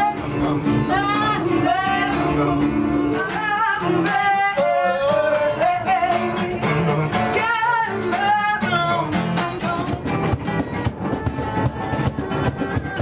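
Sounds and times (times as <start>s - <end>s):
acoustic guitar: 0.0s - 13.0s
person singing: 0.0s - 13.0s.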